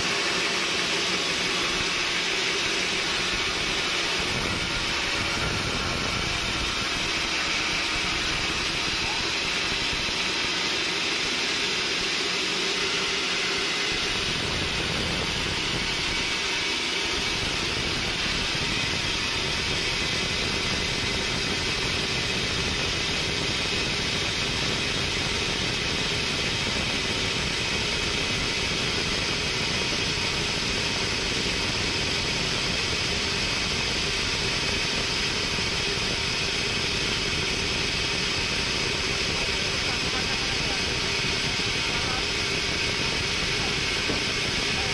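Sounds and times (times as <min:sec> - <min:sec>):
band saw cutting log: 0:00.0 - 0:32.1, 0:32.7 - 0:44.9.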